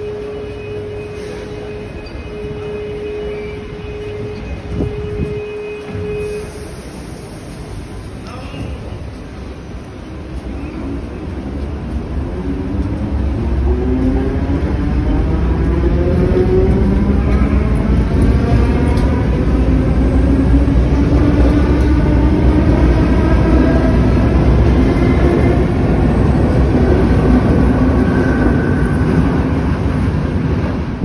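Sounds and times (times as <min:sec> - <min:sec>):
wheel and rail rumble: 0:00.0 - 0:31.0.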